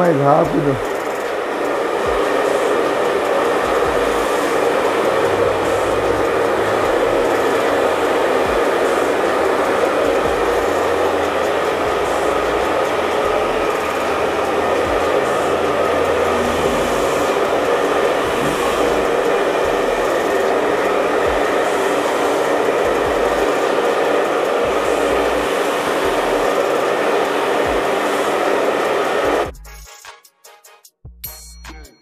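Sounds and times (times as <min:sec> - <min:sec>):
hair dryer blowing air: 0:00.0 - 0:29.5.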